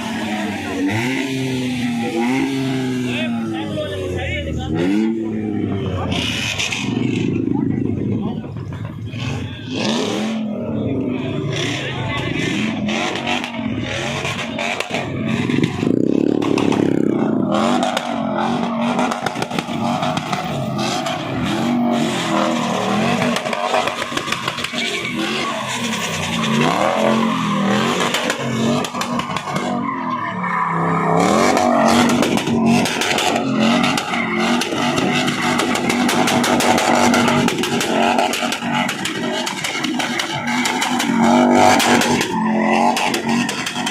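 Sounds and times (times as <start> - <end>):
vehicle engines revving: 0.0 - 43.9.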